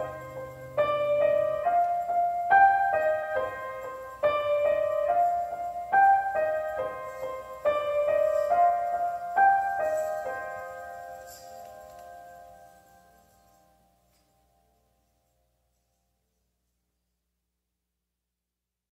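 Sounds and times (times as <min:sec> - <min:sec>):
gentle keyboard melody: 0:00.0 - 0:15.8.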